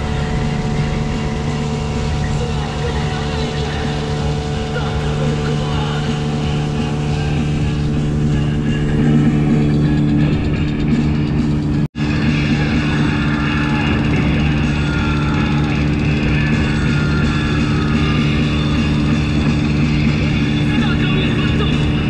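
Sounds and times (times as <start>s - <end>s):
outboard motor running: 0.0s - 22.0s
rock music with guitar: 0.0s - 22.0s.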